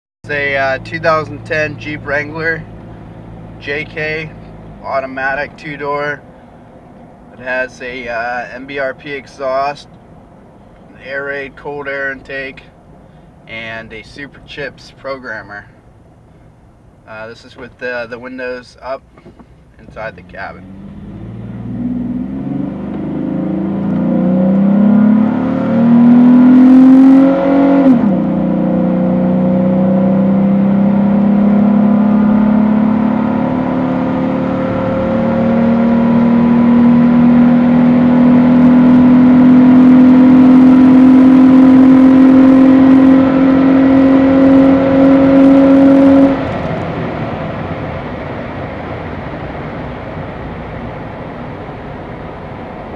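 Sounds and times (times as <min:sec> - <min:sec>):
car engine accelerating: 0:00.2 - 0:13.0, 0:19.1 - 0:52.9.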